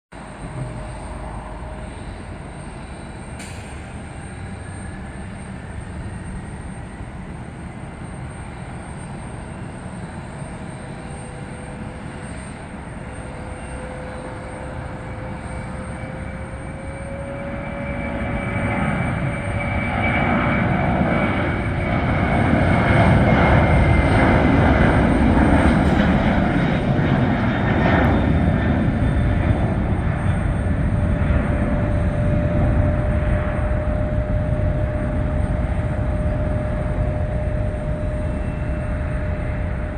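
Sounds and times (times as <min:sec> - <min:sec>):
jet engines roaring at takeoff: 0:00.2 - 0:39.9.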